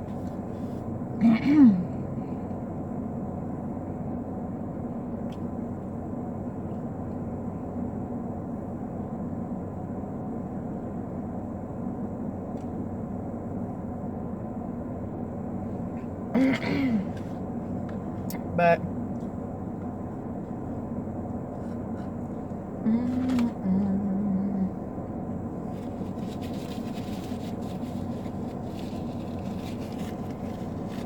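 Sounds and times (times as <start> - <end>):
car interior hum and rushing: 0.0 - 31.0.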